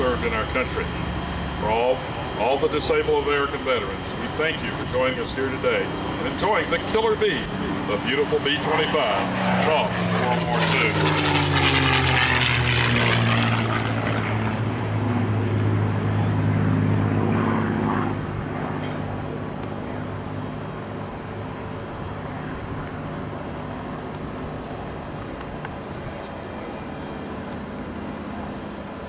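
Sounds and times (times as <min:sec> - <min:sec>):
propeller plane flyby: 0:00.0 - 0:29.0.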